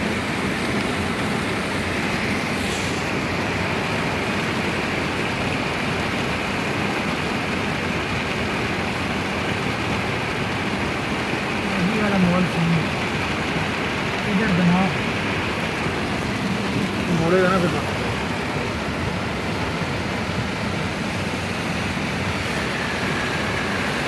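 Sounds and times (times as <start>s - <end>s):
car driving on wet road: 0.0s - 24.0s
heavy rain: 0.0s - 24.0s.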